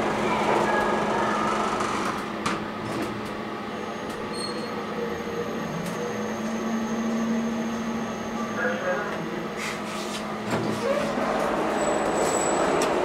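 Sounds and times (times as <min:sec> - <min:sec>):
elevator drive humming and whining: 0:00.0 - 0:13.0.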